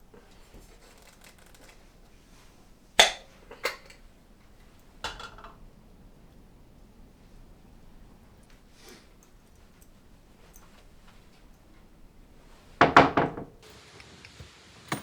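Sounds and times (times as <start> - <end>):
dishes clinking: 0.0 - 13.6.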